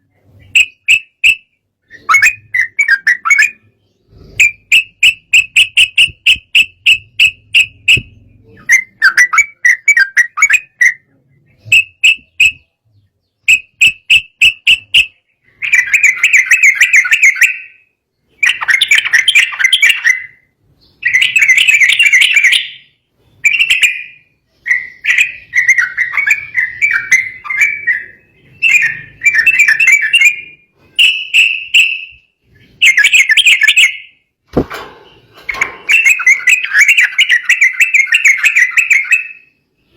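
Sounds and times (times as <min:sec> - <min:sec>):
bird chattering song: 0:00.0 - 0:34.3, 0:35.0 - 0:39.9.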